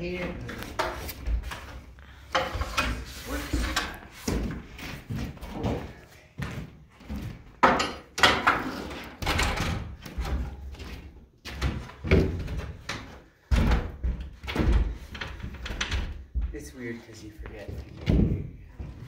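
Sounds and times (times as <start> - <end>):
stepladder knocking and clattering: 0.0 - 6.0, 7.0 - 16.7, 17.5 - 19.0.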